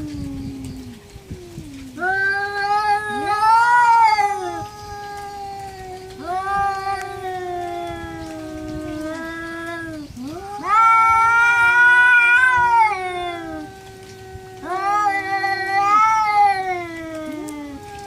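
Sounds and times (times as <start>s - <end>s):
cats yowling in a fight: 0.0s - 18.0s.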